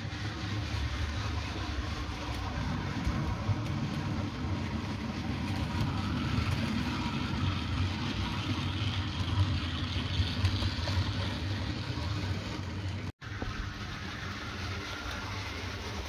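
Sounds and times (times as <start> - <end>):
model train motor hum: 0.0 - 16.0
wheels rumbling on rail: 0.0 - 16.0.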